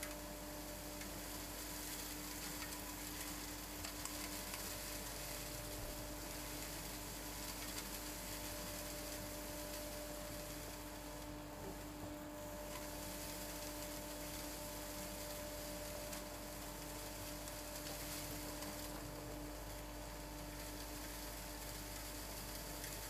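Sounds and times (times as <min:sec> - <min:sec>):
vacuum hum with air rush: 0:00.0 - 0:23.0.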